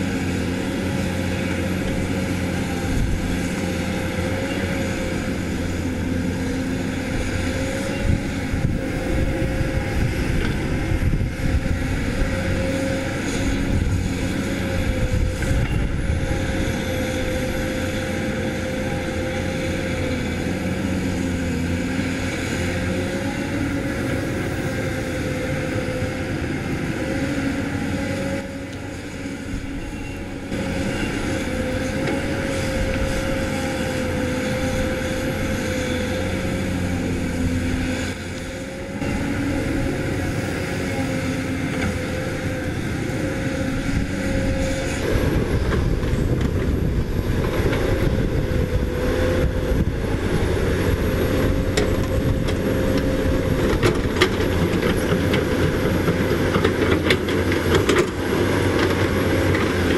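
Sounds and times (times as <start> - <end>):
excavator diesel engine: 0.0 - 59.9
hydraulic pump whine: 0.0 - 59.9.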